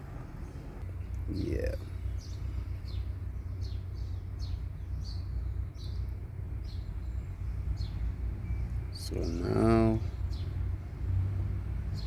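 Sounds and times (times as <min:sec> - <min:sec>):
bird chirping: 0:00.0 - 0:10.6.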